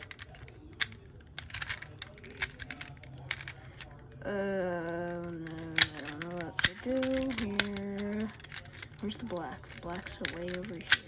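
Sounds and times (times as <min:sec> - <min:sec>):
plastic puzzle clicking: 0:00.0 - 0:03.9, 0:05.0 - 0:11.0.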